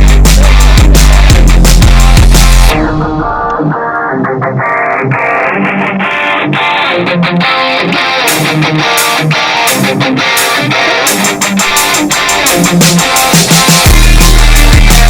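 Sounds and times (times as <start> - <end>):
instrumental beat with plucked guitar: 0.0 - 15.0.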